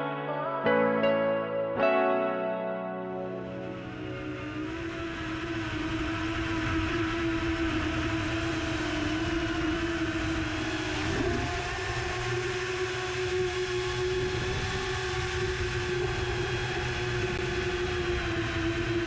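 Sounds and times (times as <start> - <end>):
drone motors whining: 3.4 - 19.0.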